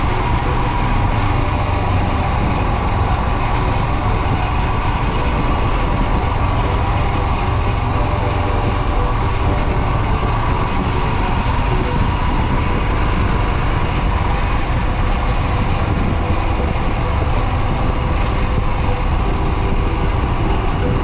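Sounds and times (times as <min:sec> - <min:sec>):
background music: 0:00.0 - 0:21.0
motorcycle engine running: 0:00.0 - 0:21.0
road and wind noise: 0:00.0 - 0:21.0.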